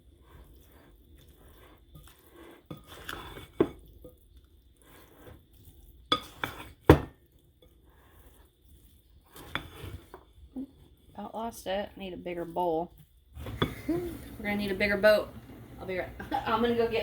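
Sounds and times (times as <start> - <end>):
spoon stirring wet mixture: 0.0 - 17.0.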